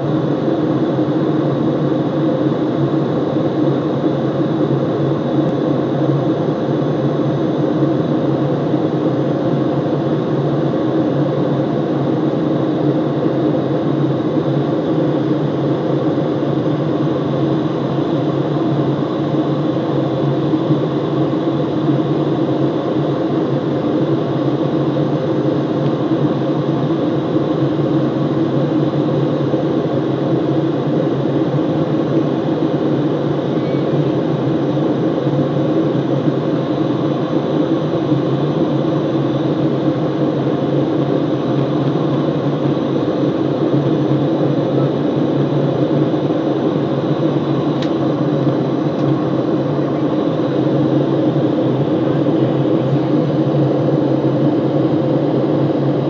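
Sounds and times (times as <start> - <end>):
airliner cabin engine drone: 0.0 - 56.0
faint high whine: 0.0 - 56.0.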